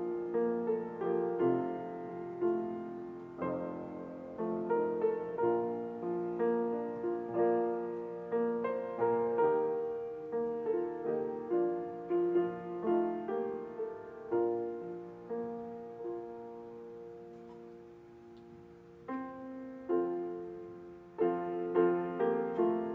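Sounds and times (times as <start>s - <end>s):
slow gentle piano piece: 0.0s - 22.9s.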